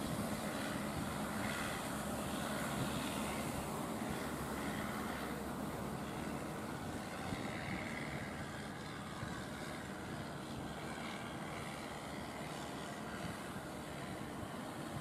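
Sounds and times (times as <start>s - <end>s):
boat motors running: 0.0s - 15.0s
sea: 0.0s - 15.0s
wind: 0.0s - 15.0s.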